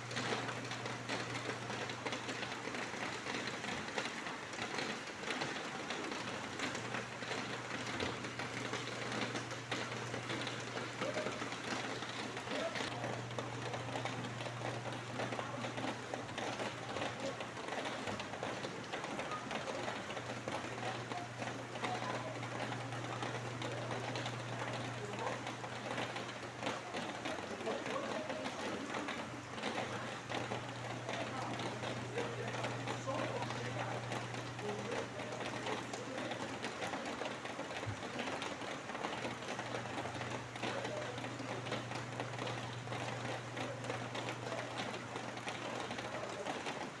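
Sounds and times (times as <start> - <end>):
steady rain patter: 0.0 - 47.0.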